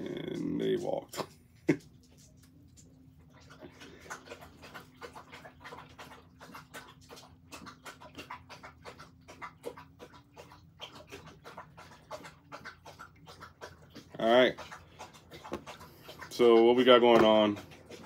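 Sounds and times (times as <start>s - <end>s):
low steady hum: 0.0s - 18.0s
dog eating crunching: 0.1s - 18.0s.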